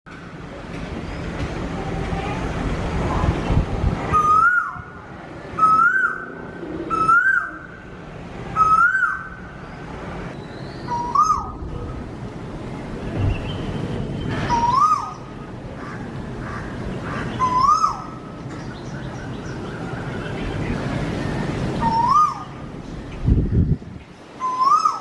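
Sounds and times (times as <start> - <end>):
low rumbling noise: 0.1 - 24.4.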